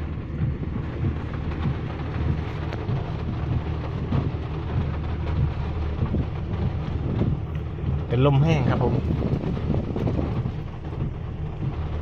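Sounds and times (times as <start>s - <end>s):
rain falling: 0.0s - 12.0s
wind buffeting microphone: 0.0s - 12.0s.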